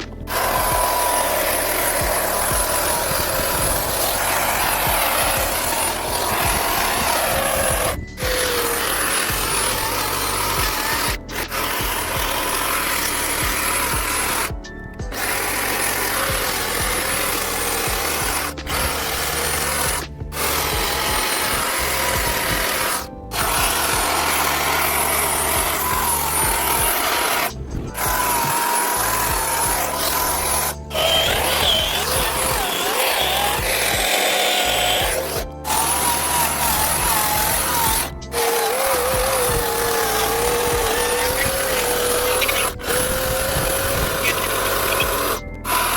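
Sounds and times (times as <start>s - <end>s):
chainsaw carving wood: 0.0s - 45.9s.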